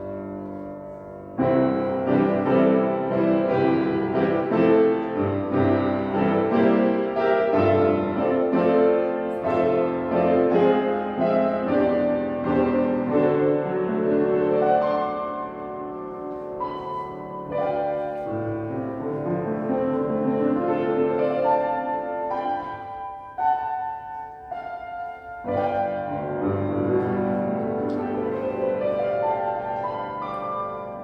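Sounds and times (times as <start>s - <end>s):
solo piano playing: 0.0s - 31.0s.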